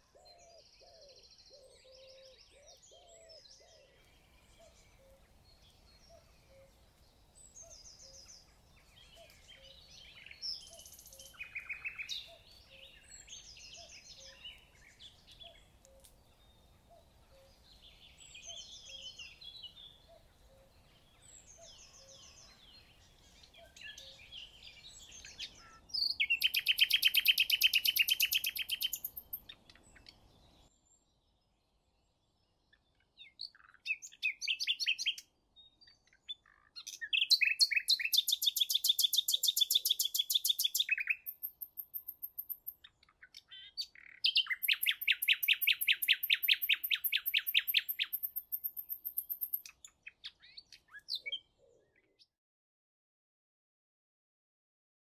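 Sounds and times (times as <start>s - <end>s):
nightingale singing: 0.0s - 30.8s, 32.7s - 52.3s.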